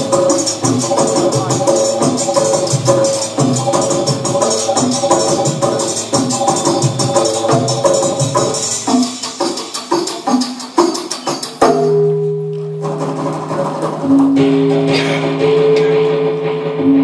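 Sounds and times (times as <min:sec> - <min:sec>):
dance music with percussive beat: 0:00.0 - 0:12.2, 0:12.8 - 0:17.0.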